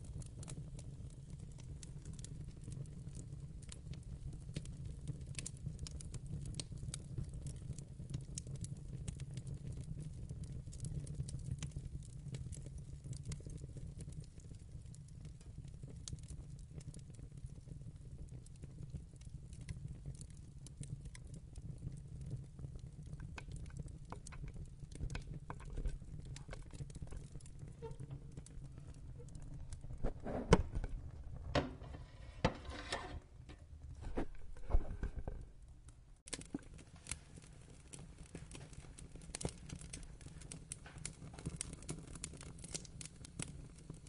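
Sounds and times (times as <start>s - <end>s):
fire crackling and popping: 0.0s - 44.0s
rumble of flames: 0.0s - 44.0s.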